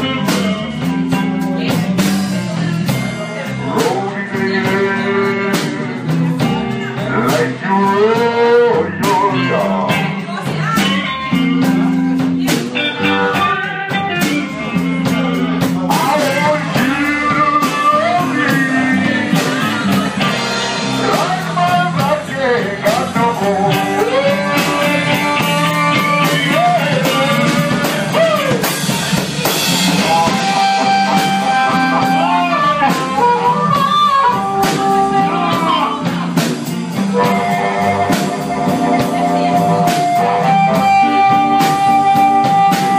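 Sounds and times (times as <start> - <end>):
bass line: 0.0 - 42.9
drum kit: 0.0 - 42.9
electric guitar: 0.0 - 42.9.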